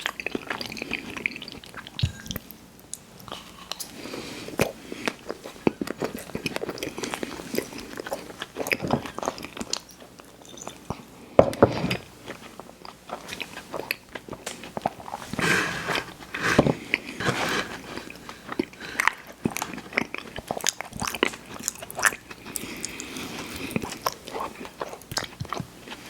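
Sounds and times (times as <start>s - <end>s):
person chewing sweets: 0.0s - 26.0s.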